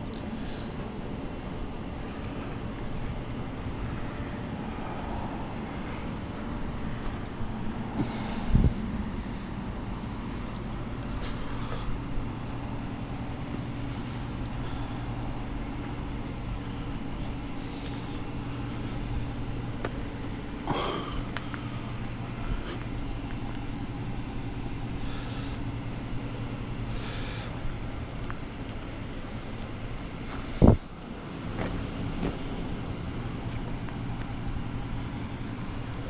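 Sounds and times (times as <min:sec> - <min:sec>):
vehicle engines idling: 0:00.0 - 0:36.0.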